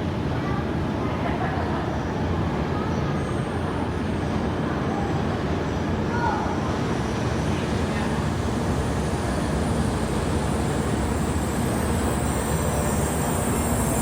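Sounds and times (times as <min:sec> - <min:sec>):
train rumbling at platform: 0:00.0 - 0:14.0.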